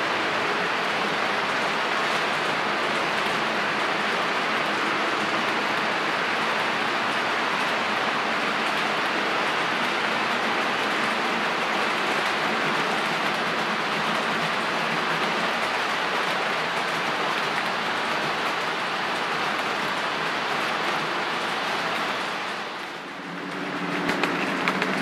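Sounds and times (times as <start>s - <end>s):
model train wheels rolling on rails: 0.0s - 25.0s.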